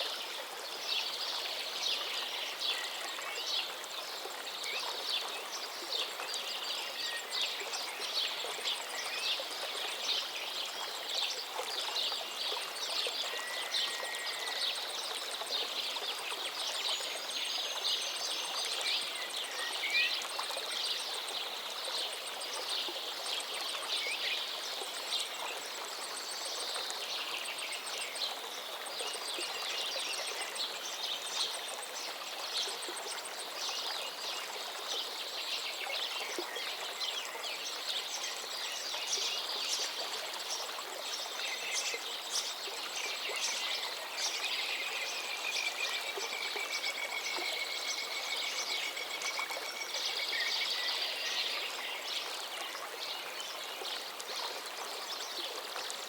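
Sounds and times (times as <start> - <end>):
river water babbling over stones: 0.0 - 56.0.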